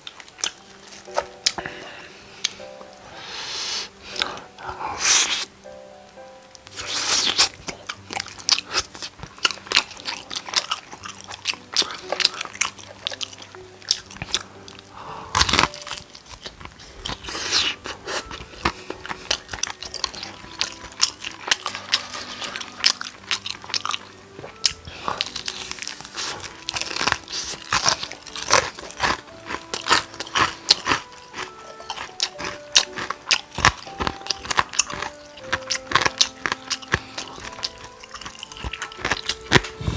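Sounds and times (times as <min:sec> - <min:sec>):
crunching fried chicken: 0:06.7 - 0:39.9.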